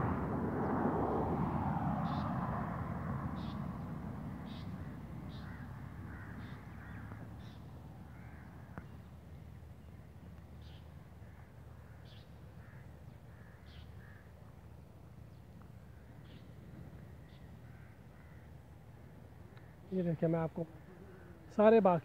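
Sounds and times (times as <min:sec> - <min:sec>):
softer lower bird calls: 0:02.0 - 0:02.4, 0:03.4 - 0:21.6.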